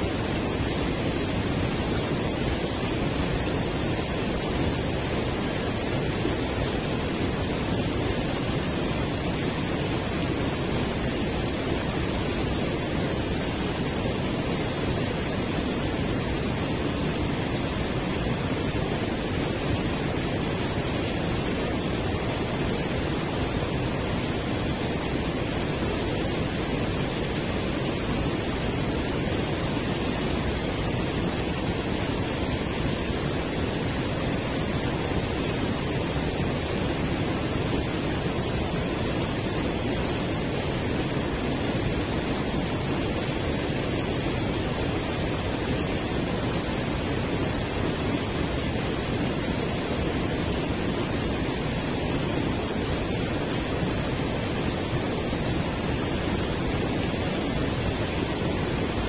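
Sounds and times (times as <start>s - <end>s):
river water rushing over weir: 0.0s - 59.0s.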